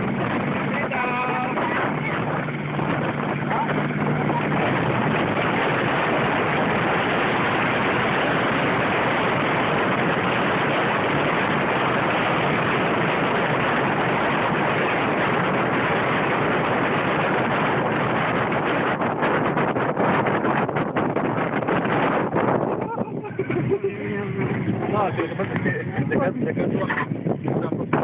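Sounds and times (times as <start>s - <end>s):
buggy engine: 0.0s - 18.8s, 20.5s - 28.0s
wind hitting microphone: 0.0s - 28.0s.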